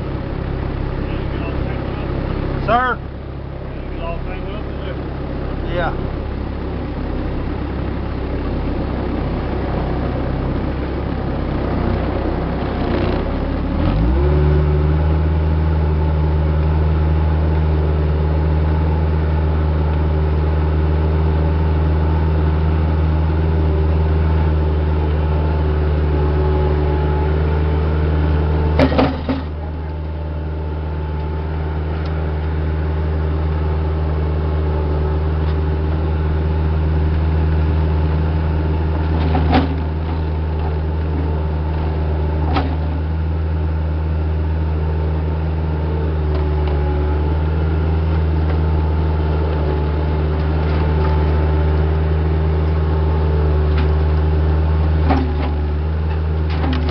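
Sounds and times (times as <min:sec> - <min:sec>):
diesel engine revving: 0:00.0 - 0:56.9.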